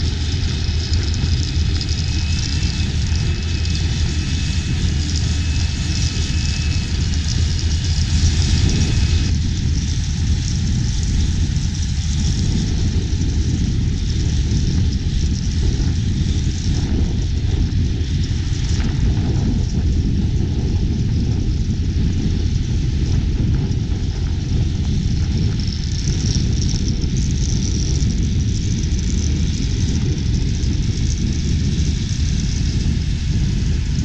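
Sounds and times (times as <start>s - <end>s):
large engine deep rumble: 0.0s - 34.0s.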